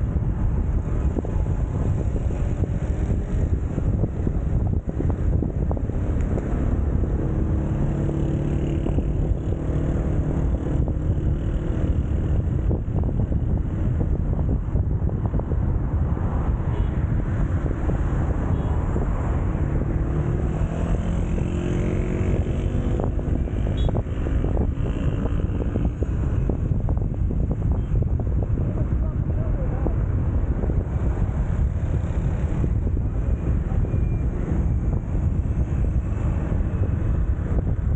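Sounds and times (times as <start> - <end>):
passing vehicle engines: 0.0 - 37.9
road and engine noise: 0.0 - 37.9
wind on microphone: 0.0 - 37.9.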